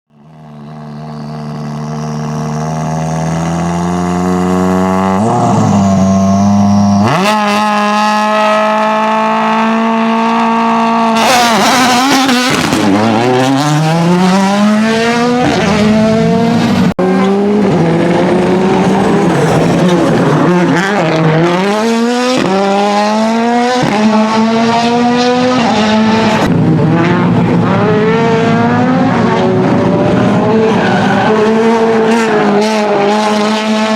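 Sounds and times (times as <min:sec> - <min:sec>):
rally car engine revving: 0:00.1 - 0:33.9.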